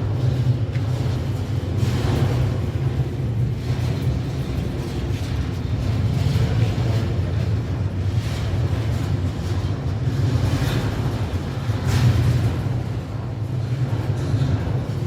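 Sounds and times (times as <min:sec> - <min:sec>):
machine low rumble: 0:00.0 - 0:15.0.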